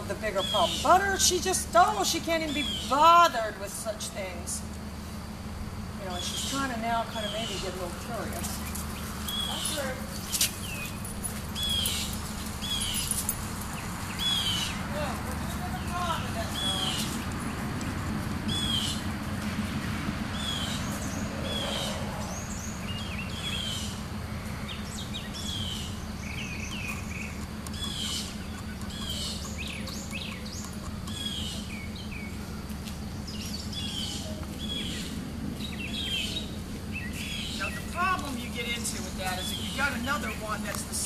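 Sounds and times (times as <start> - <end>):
small birds chirping: 0.0 - 3.3, 5.8 - 41.0
low background hum: 0.0 - 41.0.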